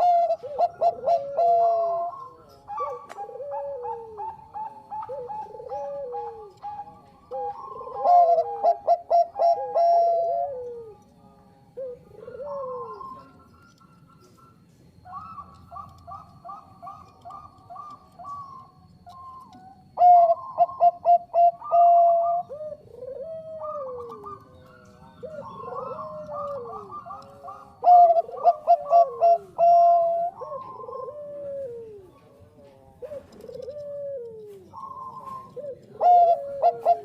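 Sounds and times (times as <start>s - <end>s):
dove cooing and trilling: 0.0s - 37.0s.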